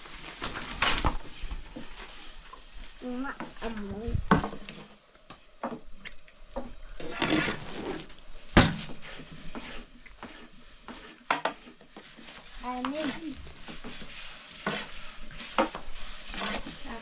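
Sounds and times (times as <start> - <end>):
rustle: 0.0 - 17.0.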